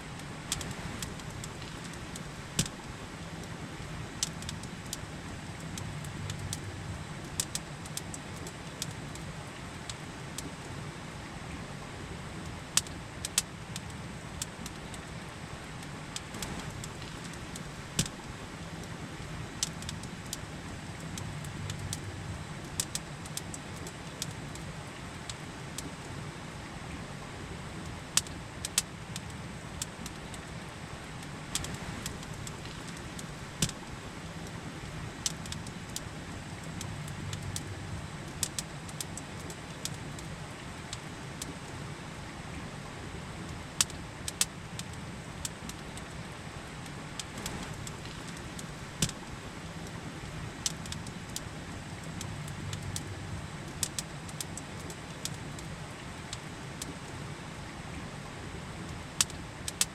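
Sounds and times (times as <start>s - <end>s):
campfire crackling and popping: 0.1s - 10.8s, 12.4s - 26.2s, 27.8s - 41.8s, 42.5s - 57.2s, 58.5s - 59.9s.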